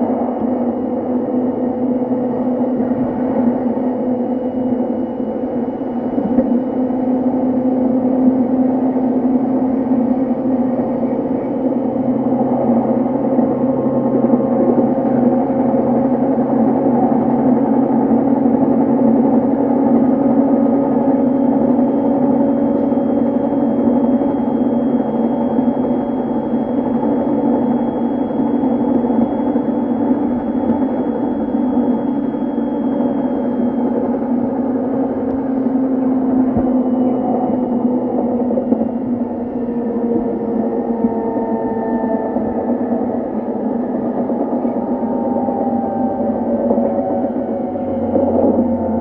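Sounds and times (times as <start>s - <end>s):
faint high whine: 0.0s - 49.0s
low drone: 0.0s - 49.0s
train wheels rumbling on rail: 0.0s - 49.0s.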